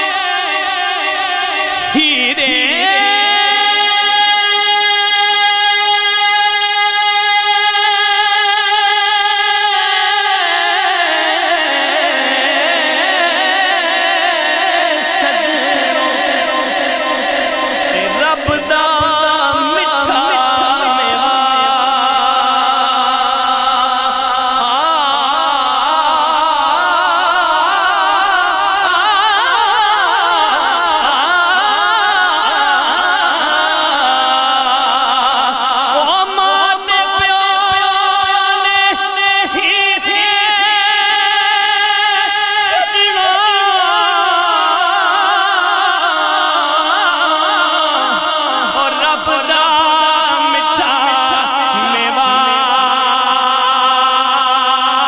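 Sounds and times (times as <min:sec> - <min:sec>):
man singing into microphone: 0:00.0 - 0:55.0.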